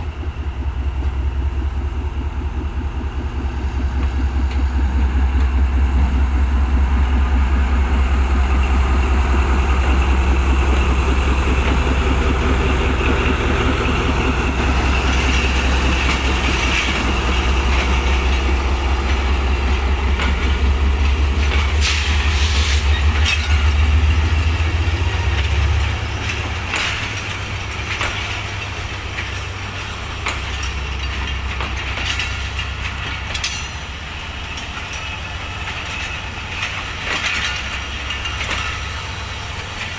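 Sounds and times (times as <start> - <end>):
locomotive engine rumble: 0.0 - 39.9
train wheels clicking over rail joints: 0.0 - 39.9.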